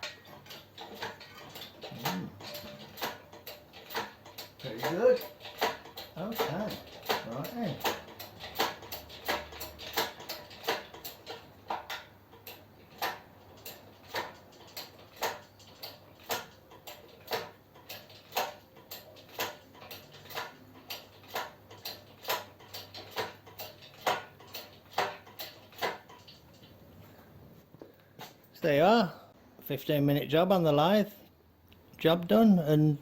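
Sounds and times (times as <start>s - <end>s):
hoist ratchet clicking: 0.0s - 26.8s.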